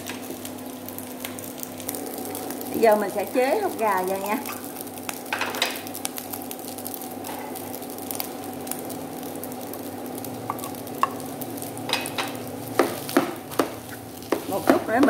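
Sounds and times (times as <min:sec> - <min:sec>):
rice sizzling in frying pan: 0:00.0 - 0:15.0
steady hum: 0:00.0 - 0:15.0.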